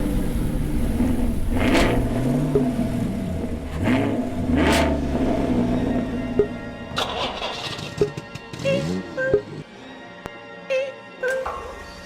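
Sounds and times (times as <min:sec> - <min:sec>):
vehicle engine idling and revving: 0:00.0 - 0:09.8.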